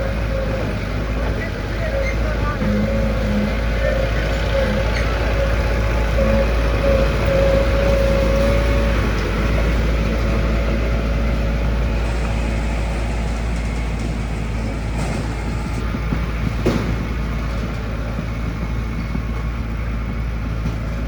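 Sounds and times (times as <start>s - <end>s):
high whine: 0.0s - 20.8s
diesel engine rumble: 0.0s - 21.0s.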